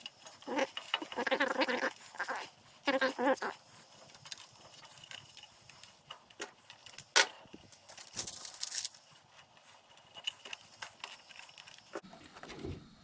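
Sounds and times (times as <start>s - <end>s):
metal tools clinking: 0.0s - 12.0s
scraping rustle: 0.0s - 12.0s.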